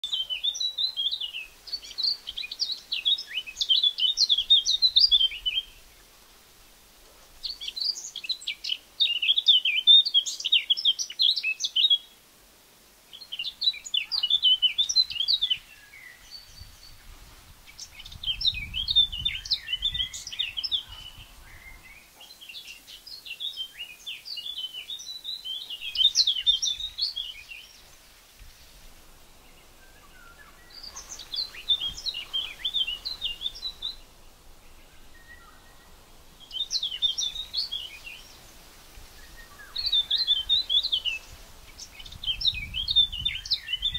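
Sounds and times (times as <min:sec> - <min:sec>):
bird warbling song: 0:00.0 - 0:06.2, 0:07.4 - 0:12.2, 0:13.1 - 0:43.9.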